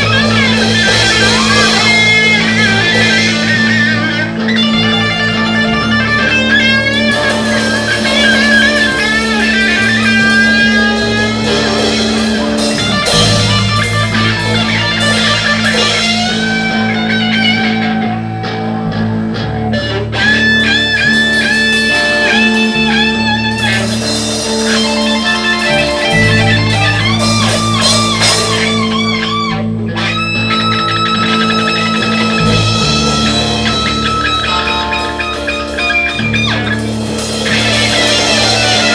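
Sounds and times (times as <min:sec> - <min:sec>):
bass line: 0:00.0 - 0:38.9
electric guitar solo: 0:00.0 - 0:38.9.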